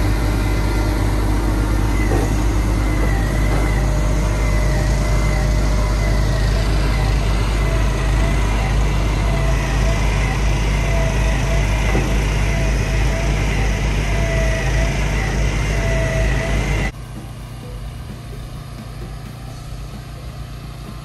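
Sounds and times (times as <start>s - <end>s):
steady high whine: 0.0s - 21.0s
truck engine and pump running: 0.0s - 21.0s.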